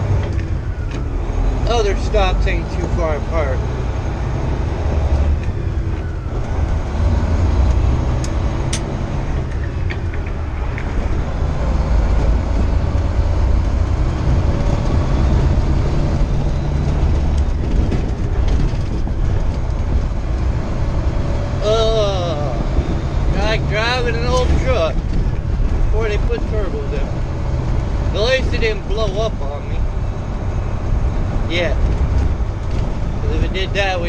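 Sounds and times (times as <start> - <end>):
road noise: 0.0 - 34.0
truck diesel engine rumble: 0.0 - 34.0.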